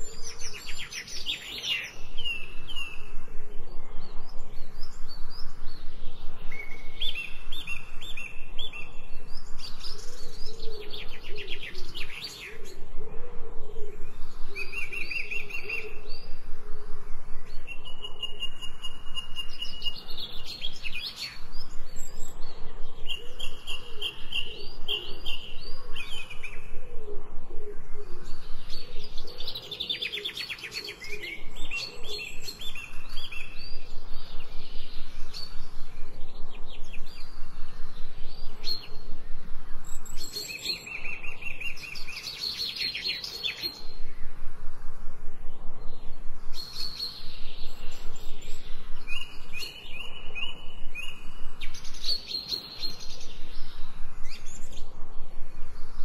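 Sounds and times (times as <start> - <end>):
birds singing and chirping: 0.0 - 56.0
lower wavering bird calls: 0.0 - 56.0.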